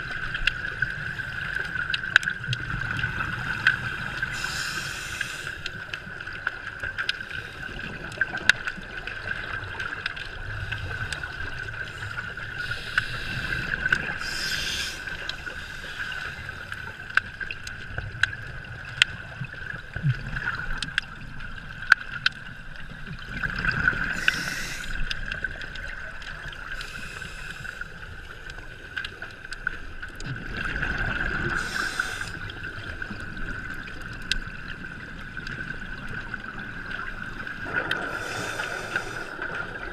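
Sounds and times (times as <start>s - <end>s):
underwater exhaled bubbles rushing: 0.0s - 39.9s.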